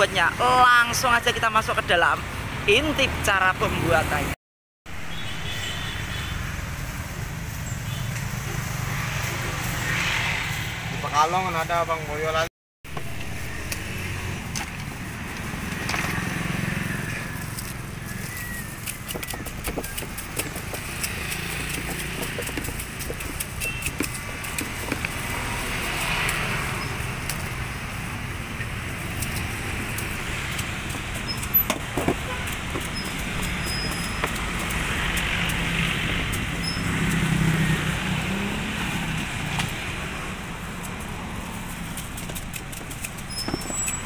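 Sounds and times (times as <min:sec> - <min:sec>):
road traffic: 0:00.0 - 0:44.0
vehicles passing: 0:00.0 - 0:44.0.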